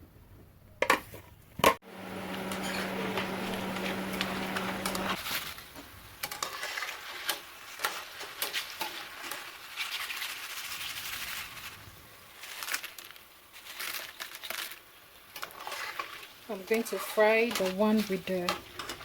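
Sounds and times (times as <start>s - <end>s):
oil sizzling in a frying pan: 2.4s - 19.0s.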